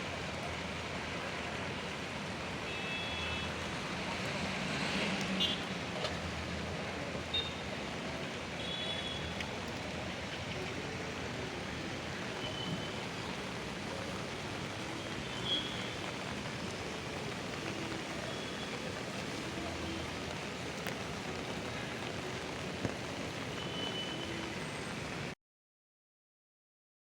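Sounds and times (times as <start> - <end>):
rain: 0.0 - 25.4
traffic on wet street: 0.0 - 25.4.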